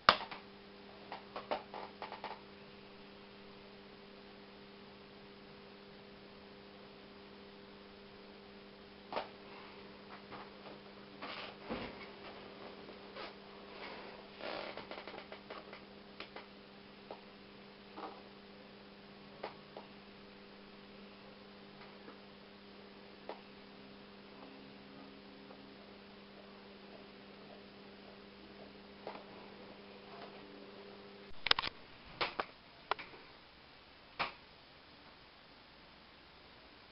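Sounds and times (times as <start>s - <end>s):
faint electrical hum: 0.0s - 36.9s.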